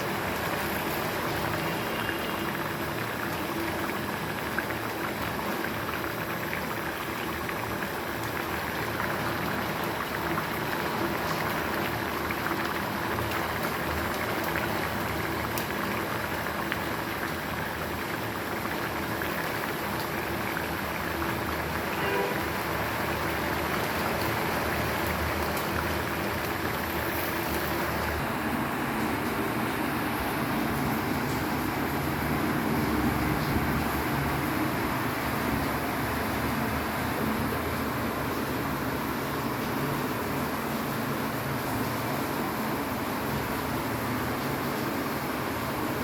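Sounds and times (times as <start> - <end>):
curry sizzling and bubbling in a pan: 0.0 - 46.0.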